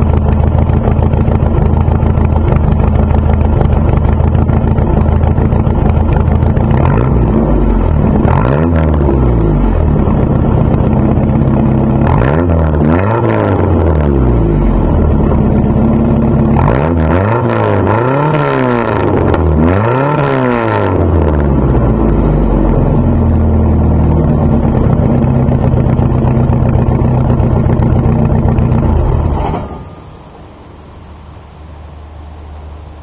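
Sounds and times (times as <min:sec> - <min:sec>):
car engine revving: 0:00.0 - 0:29.5
car engine idling: 0:00.0 - 0:33.0.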